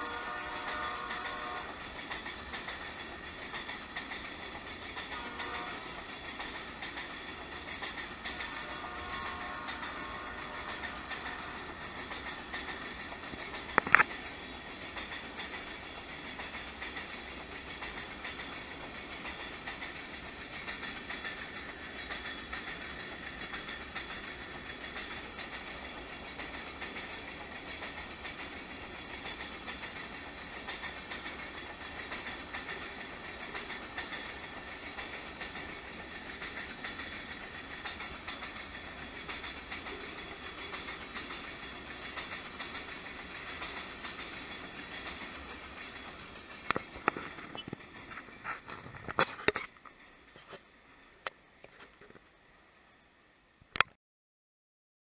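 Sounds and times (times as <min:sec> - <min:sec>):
wheels over rail joints: 0:00.0 - 0:52.3
freight train rolling past: 0:00.0 - 0:53.6.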